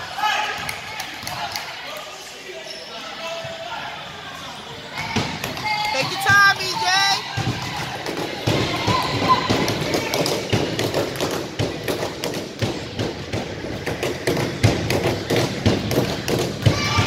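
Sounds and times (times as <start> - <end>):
crowd chatter echoing: 0.0 - 17.0.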